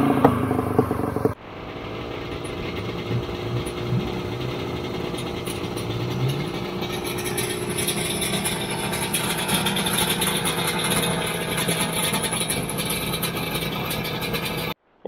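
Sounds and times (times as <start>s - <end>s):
snowmobile idling: 0.0s - 14.8s.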